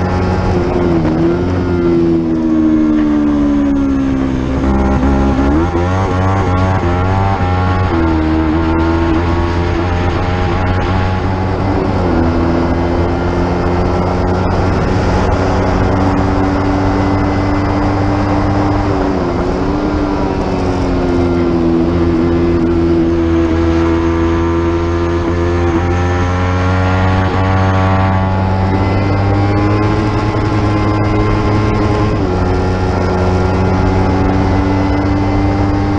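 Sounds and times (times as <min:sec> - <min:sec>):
motorcycle engine at high revs: 0:00.0 - 0:35.9
wind rumble on microphone: 0:00.0 - 0:35.9.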